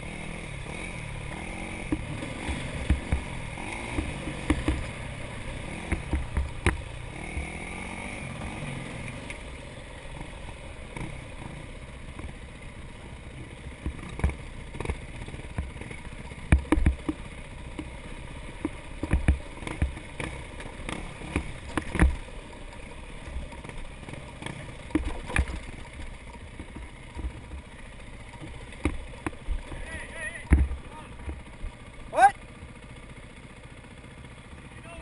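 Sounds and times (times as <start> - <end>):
dirt bike engine: 0.0 - 35.0
thumps over rough trail: 0.0 - 35.0.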